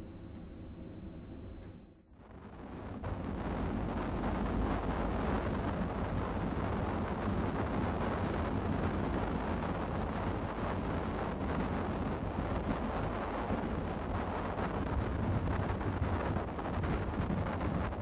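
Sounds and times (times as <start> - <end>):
low rumble: 0.0 - 18.0
wind on microphone: 2.2 - 18.0.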